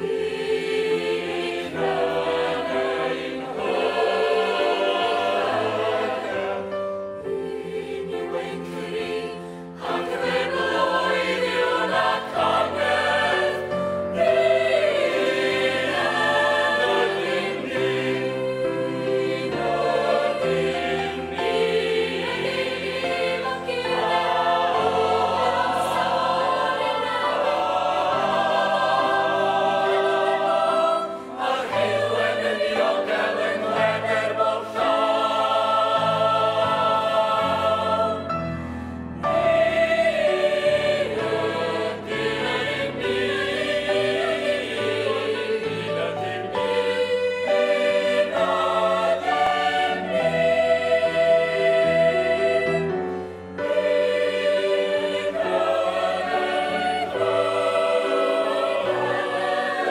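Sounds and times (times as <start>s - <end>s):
mixed choir singing: 0.0s - 59.9s.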